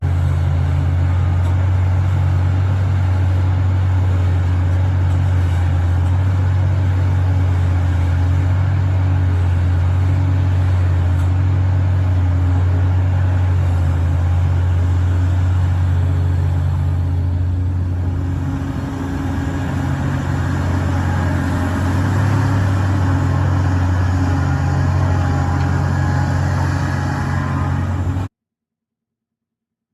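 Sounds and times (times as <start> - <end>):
diesel engine running: 0.0 - 28.3.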